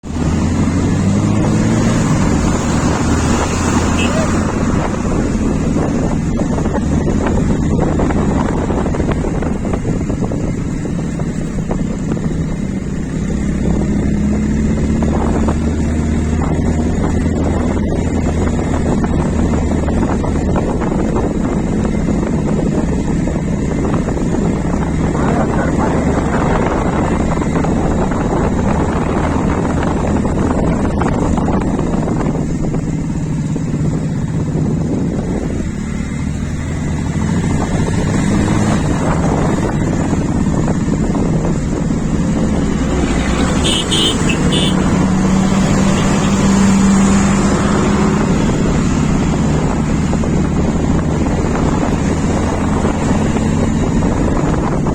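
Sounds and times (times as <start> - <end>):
low engine hum: 0.0 - 54.9
wind buffeting microphone: 0.0 - 54.9.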